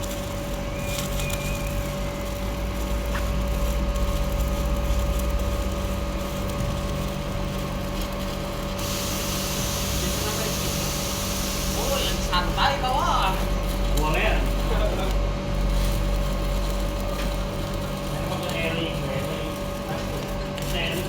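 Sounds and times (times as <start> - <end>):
electrical hum: 0.0 - 21.0
welding arc sizzling and crackling: 0.0 - 21.0.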